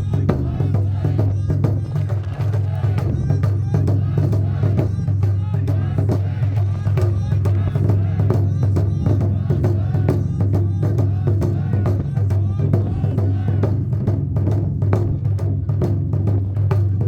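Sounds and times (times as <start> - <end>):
drum struck in steady rhythm: 0.0 - 17.0.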